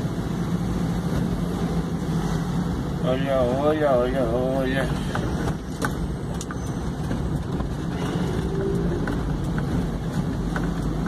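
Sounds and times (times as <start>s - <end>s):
vehicle engine and tyre rumble: 0.0s - 11.0s.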